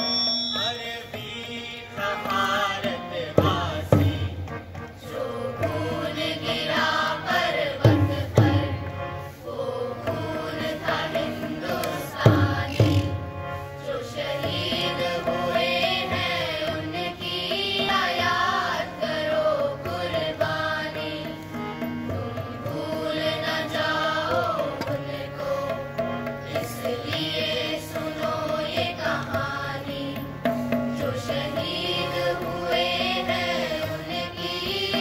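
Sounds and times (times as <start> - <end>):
group singing: 0.0 - 35.0
harmonium: 0.0 - 35.0
tabla playing: 0.0 - 35.0.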